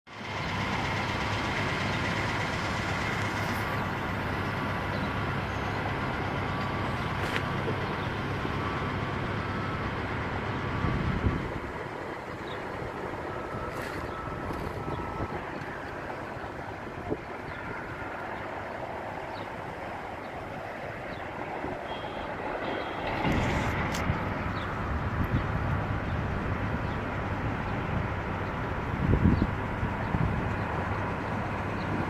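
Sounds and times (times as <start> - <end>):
engine humming: 0.1 - 32.0.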